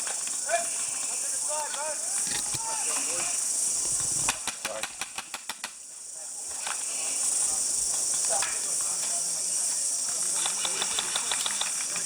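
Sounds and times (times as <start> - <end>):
cicadas shrilling: 0.0 - 12.0.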